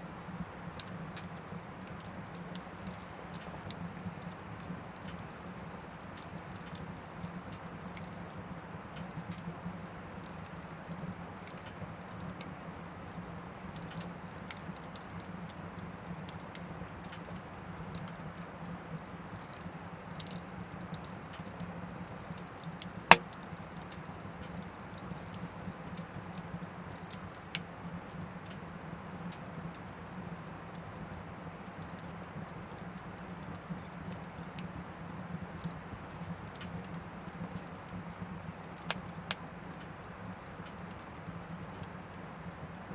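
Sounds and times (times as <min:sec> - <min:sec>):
wood fire crackling: 0:00.2 - 0:30.0, 0:30.7 - 0:42.9.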